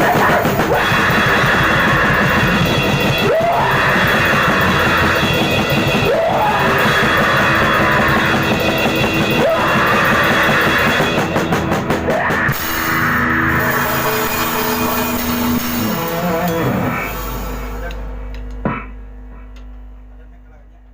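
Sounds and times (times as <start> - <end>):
drum kit: 0.0 - 19.3
distorted electric guitar: 0.0 - 20.0.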